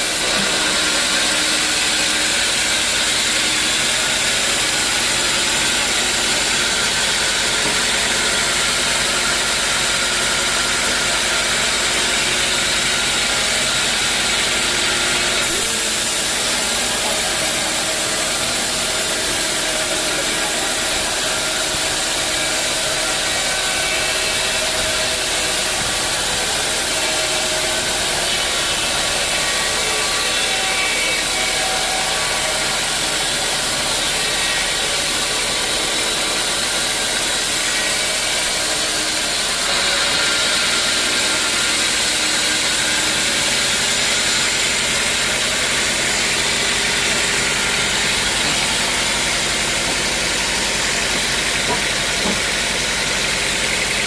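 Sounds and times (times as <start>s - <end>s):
saw cutting log: 0.0s - 54.0s.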